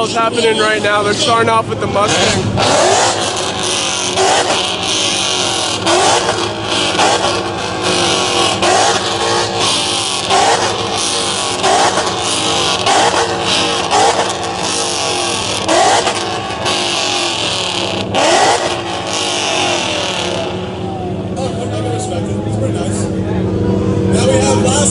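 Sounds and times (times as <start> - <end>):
car engine idling: 0.0 - 24.9
car engine revving in blips: 1.1 - 24.9.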